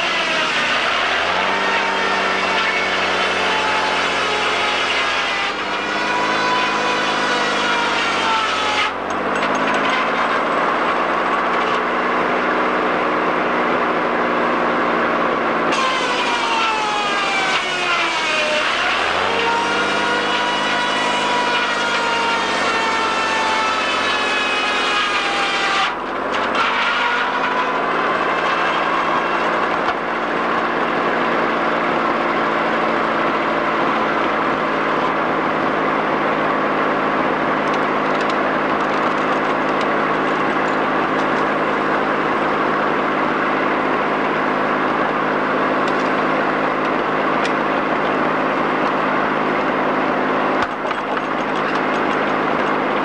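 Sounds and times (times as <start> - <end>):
sawmill saw whining through logs: 0.0 - 53.0.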